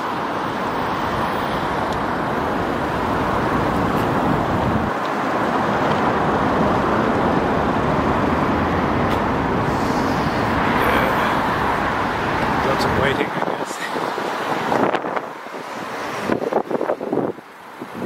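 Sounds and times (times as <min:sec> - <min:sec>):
cars passing on busy road: 0:00.0 - 0:18.0.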